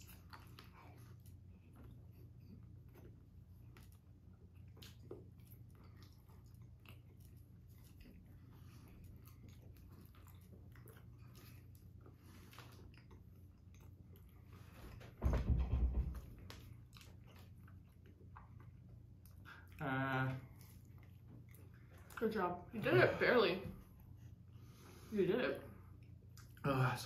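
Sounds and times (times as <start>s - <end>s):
chewing chocolate bar: 0.0s - 15.1s, 16.4s - 22.7s, 25.7s - 26.9s.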